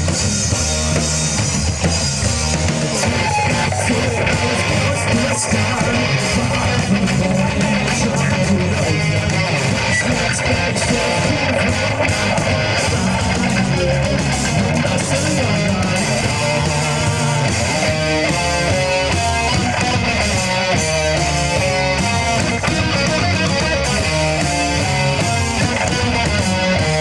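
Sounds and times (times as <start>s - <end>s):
lead guitar line: 0.0s - 27.0s
rock band playing live: 0.0s - 27.0s.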